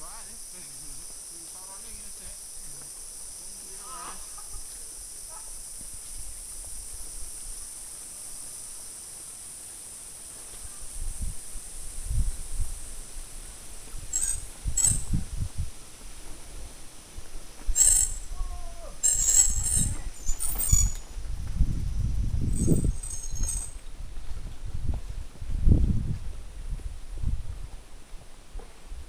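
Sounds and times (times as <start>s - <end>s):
insect chorus: 0.0s - 24.6s.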